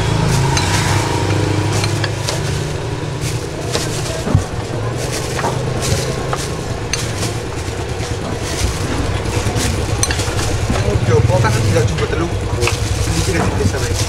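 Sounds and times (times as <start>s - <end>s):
china bowls clinking: 0.0s - 11.9s
steady low hum: 0.0s - 14.0s
vegetables rustling into bowls: 0.0s - 14.0s.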